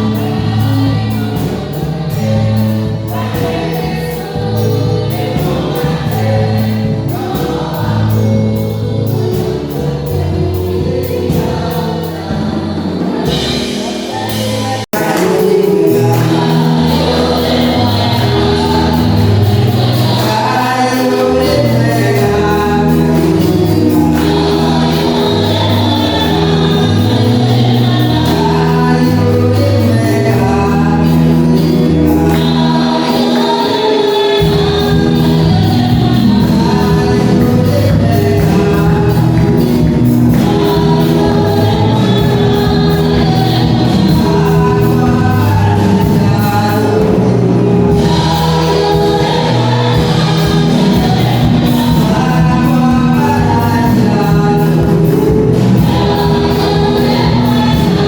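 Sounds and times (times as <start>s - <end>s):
gospel choir singing: 0.0s - 58.0s
instrumental backing: 0.0s - 58.0s.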